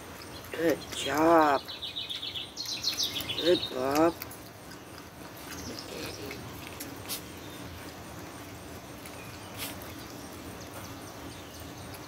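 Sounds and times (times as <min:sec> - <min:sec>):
animal chewing and licking: 0:00.0 - 0:12.0.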